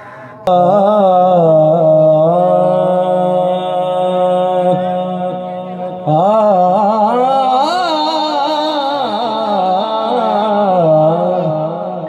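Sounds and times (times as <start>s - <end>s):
man singing amplified: 0.0s - 12.0s.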